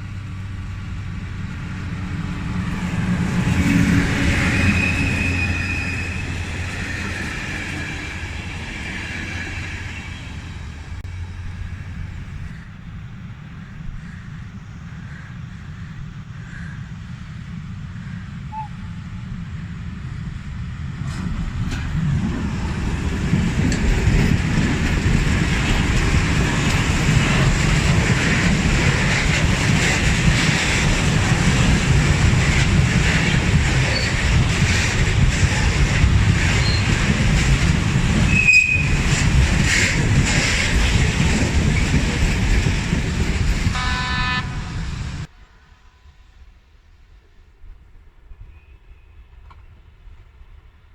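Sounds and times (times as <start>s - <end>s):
train rumbling past: 0.0s - 50.9s.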